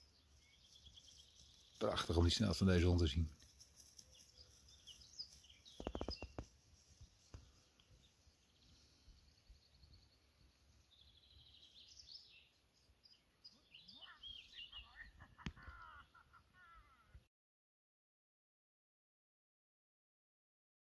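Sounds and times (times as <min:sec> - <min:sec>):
distant birds chirping: 0:00.0 - 0:17.2.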